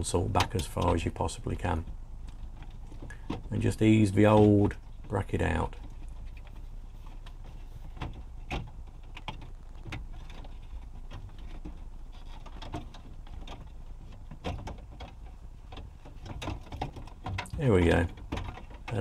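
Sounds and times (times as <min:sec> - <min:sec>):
plastic clicks and knocks in dashboard: 0:00.2 - 0:19.0.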